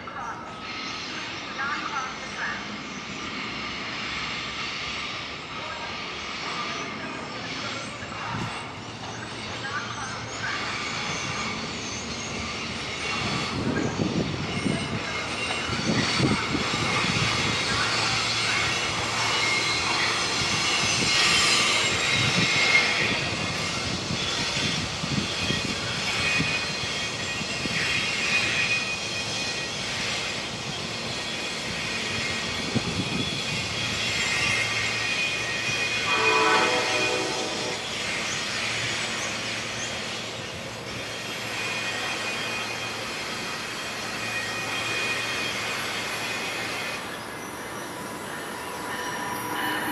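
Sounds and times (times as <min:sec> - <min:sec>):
passenger train rolling on rails: 0:00.0 - 0:49.9
steel wheels squealing: 0:06.2 - 0:49.9.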